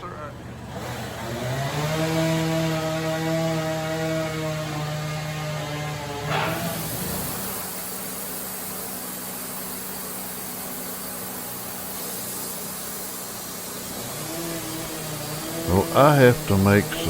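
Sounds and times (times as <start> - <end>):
rushing machine noise: 0.8 - 17.0.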